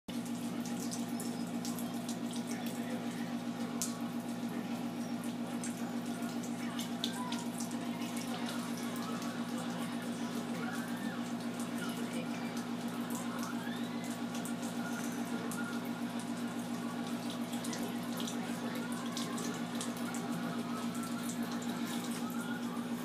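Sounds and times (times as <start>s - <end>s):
tap water running into sink: 0.1s - 23.0s
water splashes and drips: 0.1s - 23.0s.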